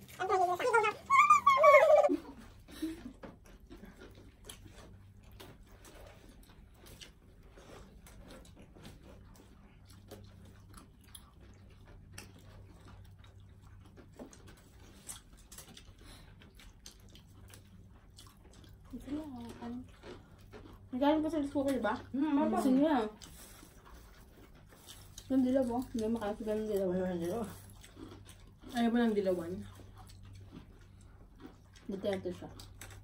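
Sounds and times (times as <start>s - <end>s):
people chewing and crunching: 0.0s - 33.0s.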